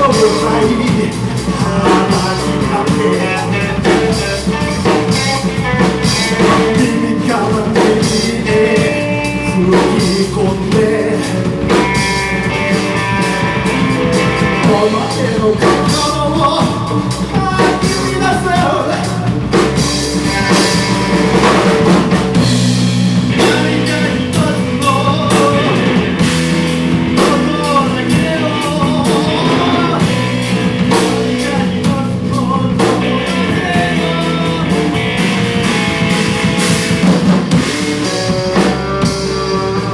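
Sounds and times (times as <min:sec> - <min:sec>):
person singing: 0:00.0 - 0:22.5, 0:23.3 - 0:26.4, 0:27.1 - 0:39.9
live rock band playing: 0:00.0 - 0:39.9.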